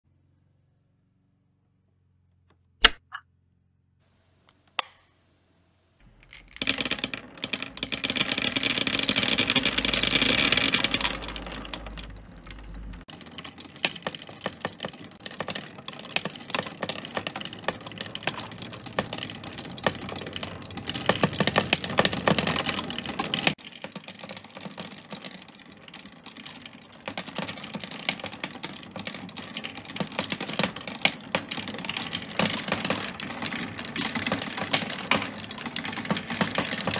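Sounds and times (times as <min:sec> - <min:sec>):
marbles clattering on wooden wheels: 0:06.0 - 0:36.9.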